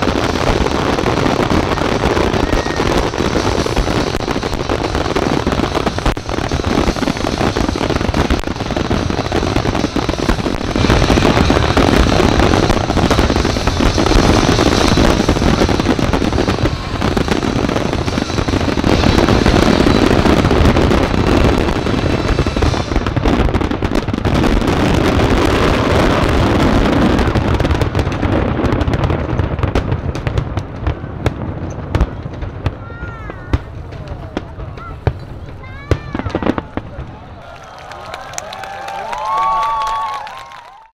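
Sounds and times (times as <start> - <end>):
fireworks bursts and crackles: 0.0 - 40.9.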